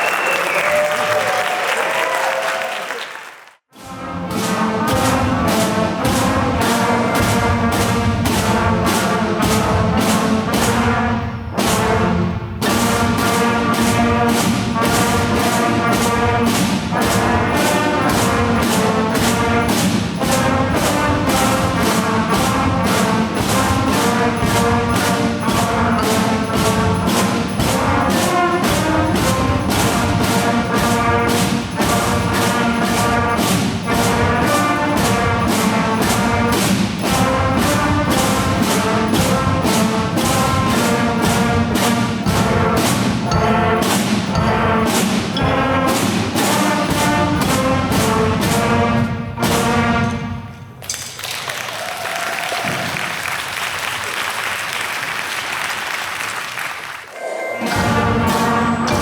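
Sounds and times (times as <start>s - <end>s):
band playing festive brass music: 3.7s - 50.8s, 56.6s - 59.0s.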